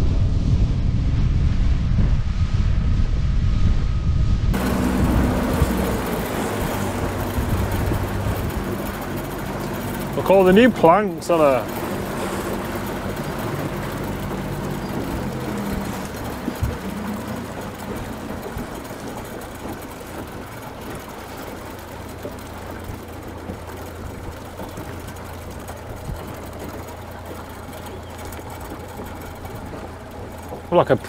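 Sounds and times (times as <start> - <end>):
wind and water rushing: 0.0 - 31.0
outboard motor running: 4.5 - 31.0.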